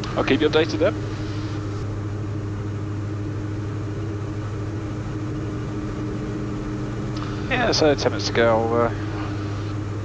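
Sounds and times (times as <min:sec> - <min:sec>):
aircraft cabin engine drone: 0:00.0 - 0:10.0.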